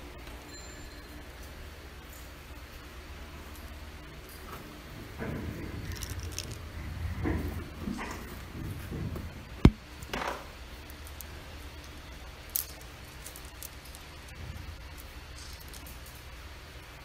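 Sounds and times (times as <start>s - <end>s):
low room rumble: 1.2s - 17.0s.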